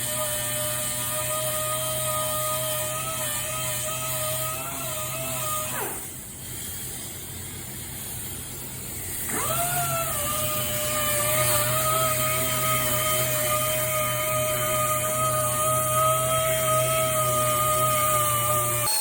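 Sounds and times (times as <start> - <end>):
power sander whine: 0.0 - 6.2, 9.2 - 19.0.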